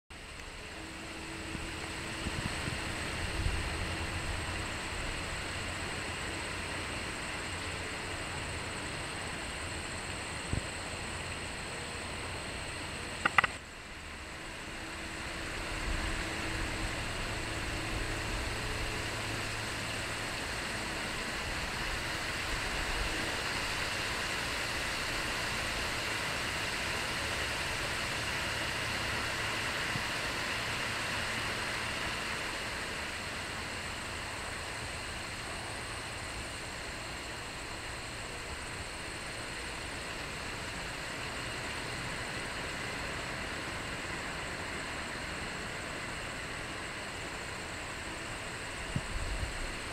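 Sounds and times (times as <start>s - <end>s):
steady hiss: 0.1s - 49.9s.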